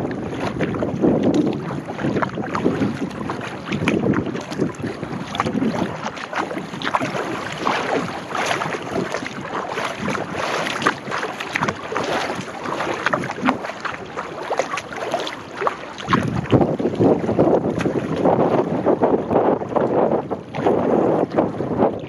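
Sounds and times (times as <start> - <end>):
kayak paddle splashing: 0.0 - 22.0
water slapping: 0.0 - 22.0
wind buffeting microphone: 0.0 - 22.0.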